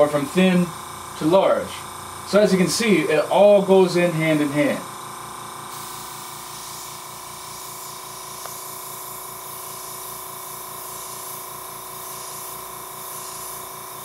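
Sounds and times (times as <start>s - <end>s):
airbrush hissing: 0.0s - 14.0s.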